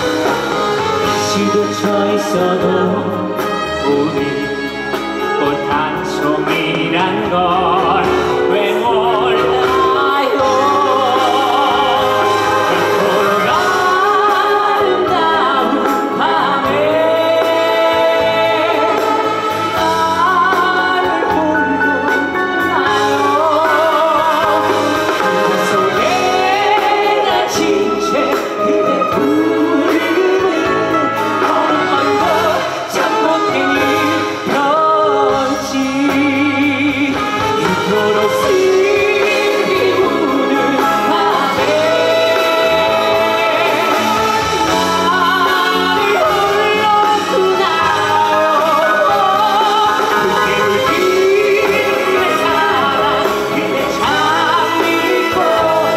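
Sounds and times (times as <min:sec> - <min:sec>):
band with acoustic guitar: 0:00.0 - 0:55.9
man singing into microphone: 0:01.0 - 0:55.9.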